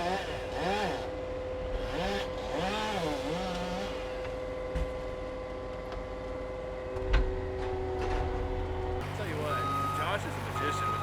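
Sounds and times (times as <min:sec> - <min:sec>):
heavy machinery engine running: 0:00.1 - 0:11.0.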